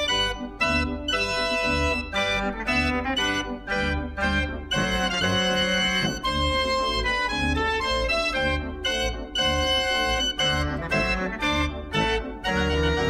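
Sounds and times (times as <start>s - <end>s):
fairground organ playing: 0.0s - 13.0s.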